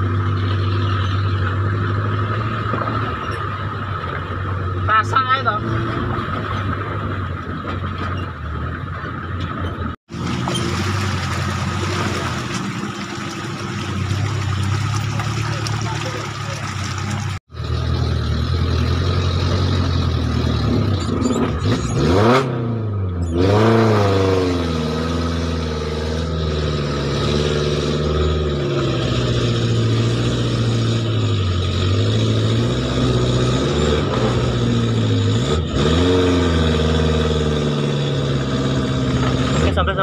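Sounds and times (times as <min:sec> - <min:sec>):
off-road vehicle engine revving: 0:00.0 - 0:40.0.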